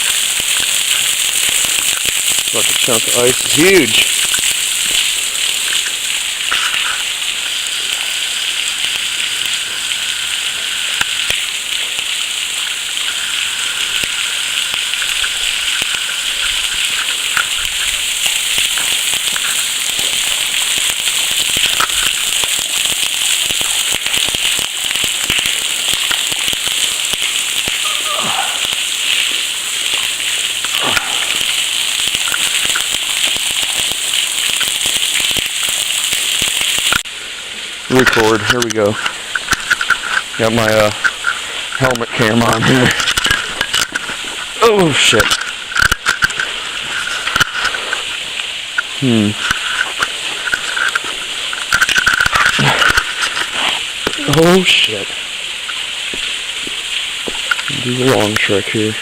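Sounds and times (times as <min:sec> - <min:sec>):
crackling drips: 0:00.0 - 0:59.0
small waterfall splashing: 0:00.0 - 0:59.0.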